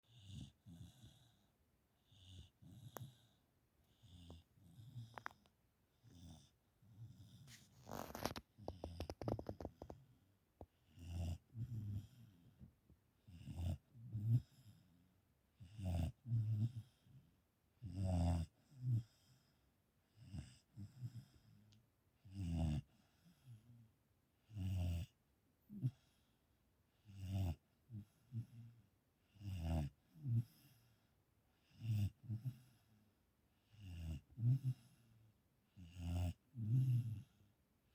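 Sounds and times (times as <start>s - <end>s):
dog snoring: 0.1s - 23.8s, 24.4s - 26.3s, 27.0s - 37.9s.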